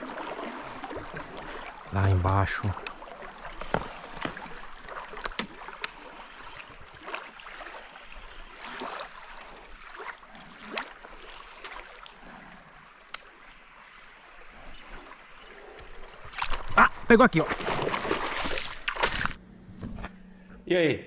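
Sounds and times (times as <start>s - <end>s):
small splashes: 0.0s - 19.4s
water moving around kayak: 0.0s - 20.0s.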